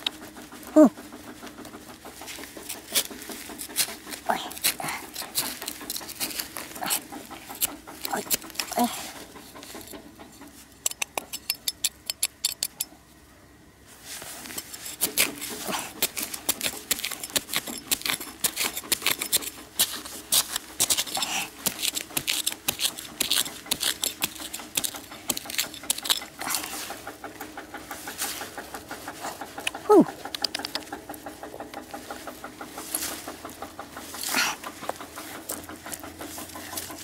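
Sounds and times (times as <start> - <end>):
hands scraping dirt: 0.0 - 12.9, 13.9 - 37.0
loose soil crumbling and pattering: 0.0 - 12.9, 13.9 - 37.0.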